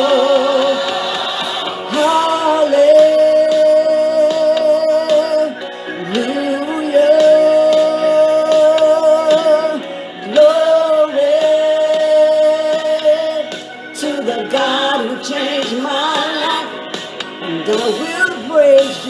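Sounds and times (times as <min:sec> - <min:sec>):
backing music: 0:00.0 - 0:19.0
person singing gospel: 0:00.0 - 0:19.0.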